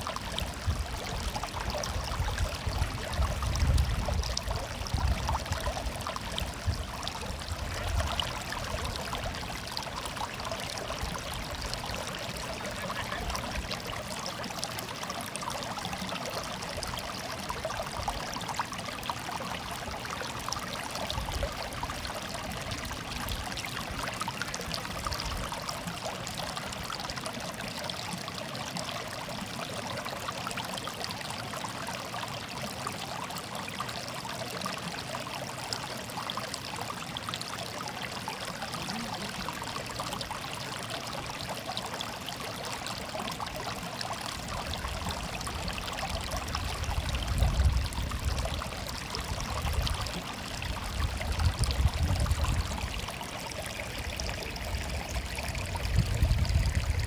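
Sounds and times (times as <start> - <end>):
stream trickling over stones: 0.0 - 57.0.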